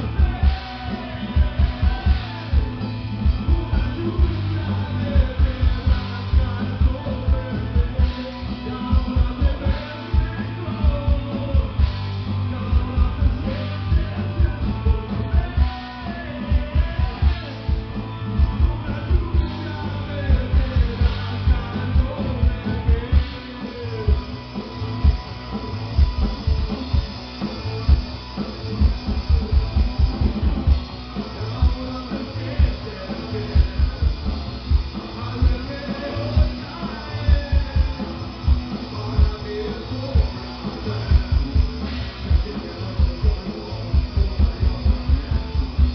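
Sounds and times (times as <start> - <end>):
rock band playing: 0.0 - 45.9.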